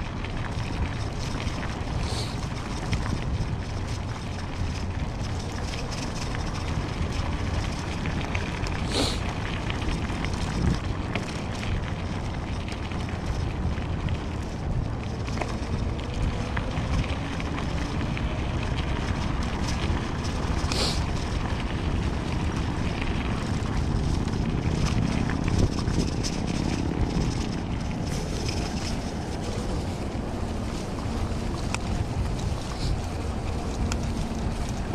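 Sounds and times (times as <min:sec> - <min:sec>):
tyres rolling over gravel: 0:00.0 - 0:34.9
wind buffeting microphone: 0:00.0 - 0:34.9.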